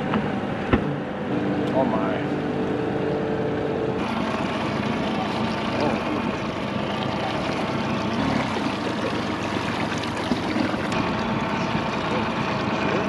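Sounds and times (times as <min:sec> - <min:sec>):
motorboat engine drone: 0:00.0 - 0:13.0
water rushing past hull: 0:02.5 - 0:13.0.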